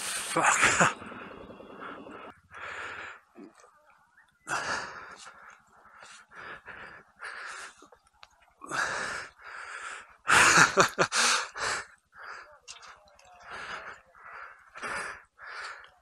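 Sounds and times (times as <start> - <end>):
person breathing hard: 0.0 - 3.6, 4.5 - 8.0, 8.7 - 16.0.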